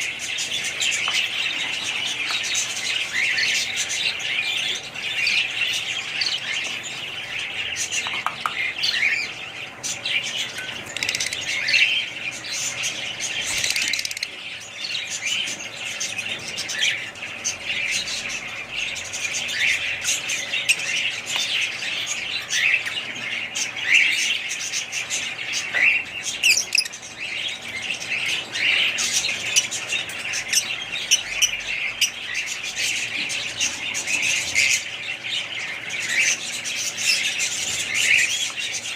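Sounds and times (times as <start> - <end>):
small birds chattering: 0.0 - 38.9.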